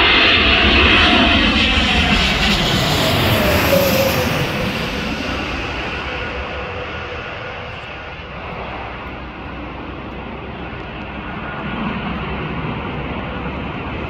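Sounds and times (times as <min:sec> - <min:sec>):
jet engines passing overhead: 0:00.0 - 0:14.0
low rumble: 0:00.0 - 0:14.0.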